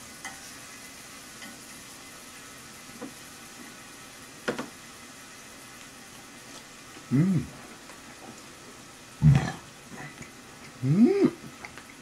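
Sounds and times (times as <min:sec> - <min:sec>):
beef sizzling on grill plate: 0:00.0 - 0:12.0.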